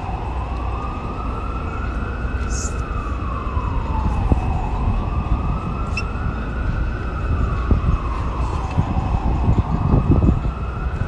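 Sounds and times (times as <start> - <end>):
emergency vehicle siren wailing: 0.0 - 11.0.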